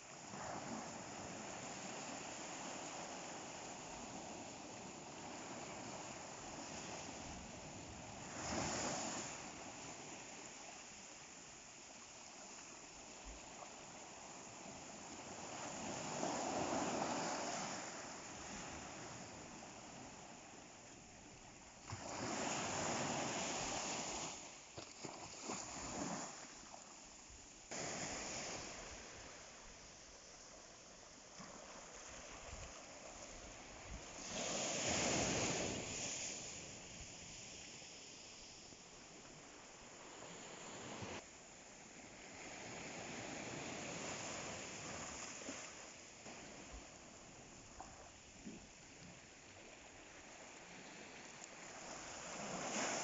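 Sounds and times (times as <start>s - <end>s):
sea waves breaking on shore: 0.0s - 41.2s, 41.9s - 53.0s.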